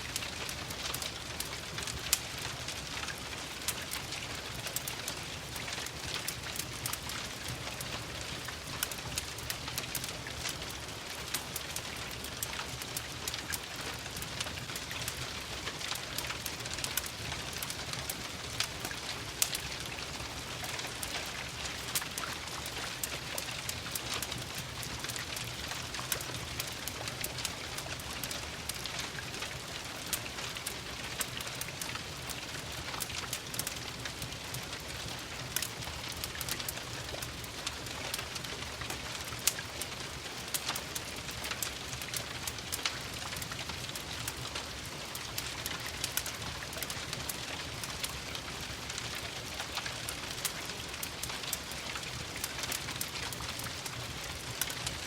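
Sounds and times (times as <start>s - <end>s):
gentle rain: 0.0s - 55.0s
wood fire crackling: 0.0s - 55.0s.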